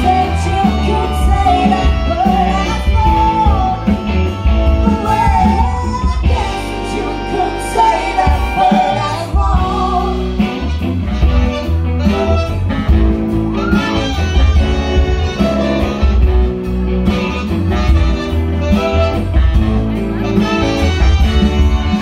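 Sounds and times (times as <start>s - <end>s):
electric guitar: 0.0s - 22.0s
rhythm and blues band playing: 0.0s - 22.0s.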